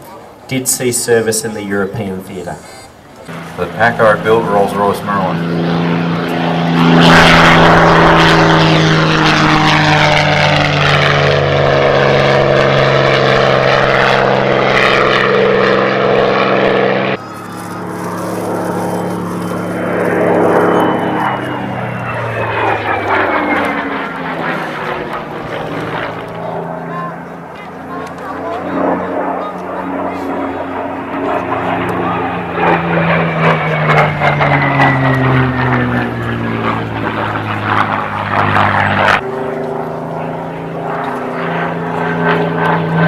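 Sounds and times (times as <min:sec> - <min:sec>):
propeller aircraft engine passing: 0:00.0 - 0:43.0.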